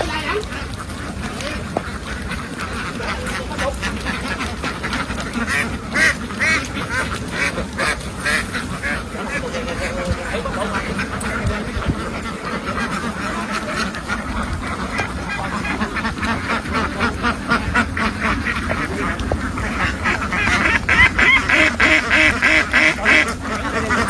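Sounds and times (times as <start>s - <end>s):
flock of ducks quacking: 0.0s - 24.0s.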